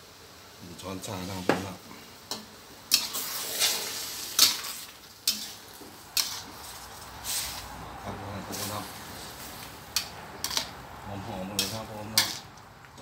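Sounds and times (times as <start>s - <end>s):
food sizzling in a hot pan: 0.0s - 12.5s.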